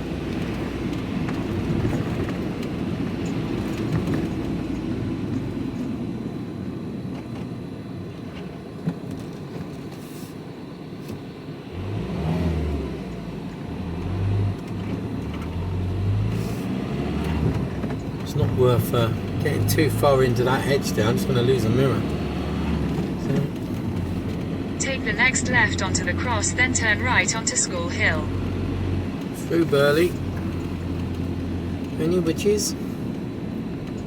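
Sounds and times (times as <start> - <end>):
diesel engine driving: 0.0 - 34.0.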